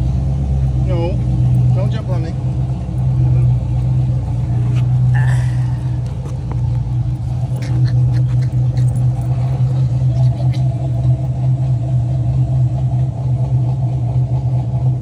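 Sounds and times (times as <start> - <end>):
motor humming: 0.0 - 13.5.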